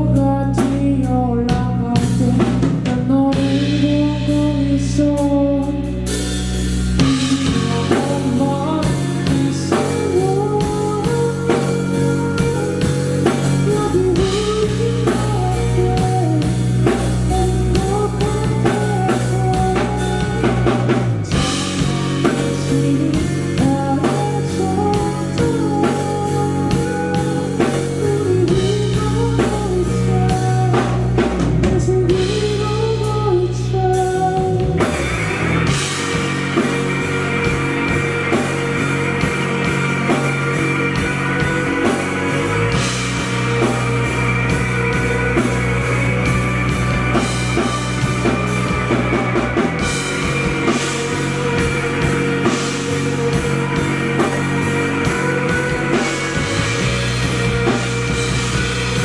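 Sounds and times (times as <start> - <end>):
rock band playing: 0.0 - 59.0
wavering lead guitar melody: 3.1 - 59.0.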